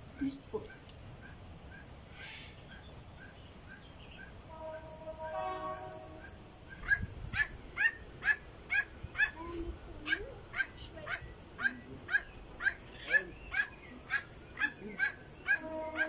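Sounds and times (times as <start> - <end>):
sharp bird calls: 0.0 - 9.4, 10.1 - 16.0
birds chirping: 0.0 - 16.0.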